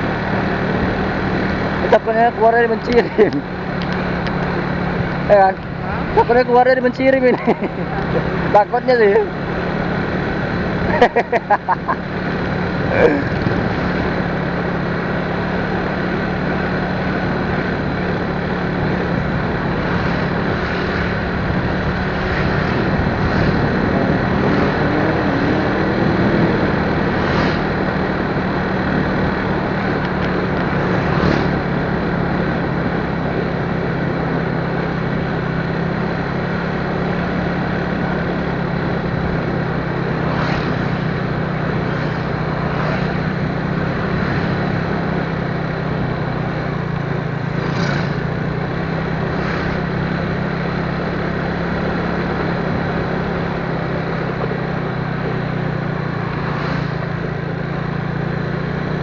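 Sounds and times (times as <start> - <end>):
road and wind noise: 0.0 - 59.0
vehicle engine hum: 0.0 - 59.0.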